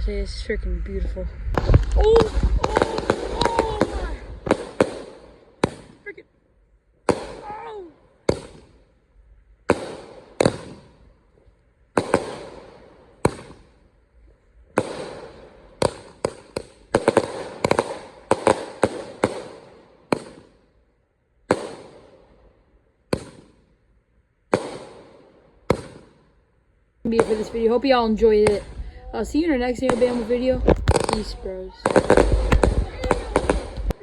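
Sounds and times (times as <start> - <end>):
fireworks bangs: 0.0 - 6.4, 7.0 - 20.8, 21.4 - 23.8, 24.4 - 26.4, 27.1 - 34.0.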